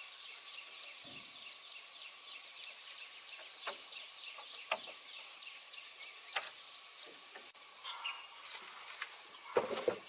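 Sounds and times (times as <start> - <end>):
insects buzzing and chirping: 0.0 - 10.0.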